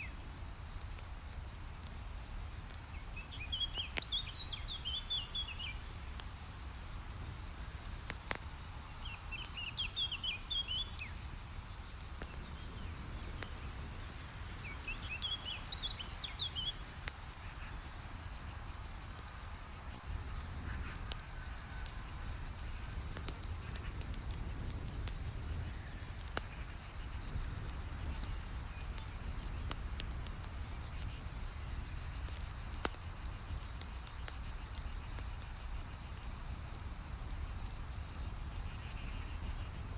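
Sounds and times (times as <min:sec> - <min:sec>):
campfire crackling and popping: 0:00.0 - 0:39.9
insects trilling: 0:00.0 - 0:39.9.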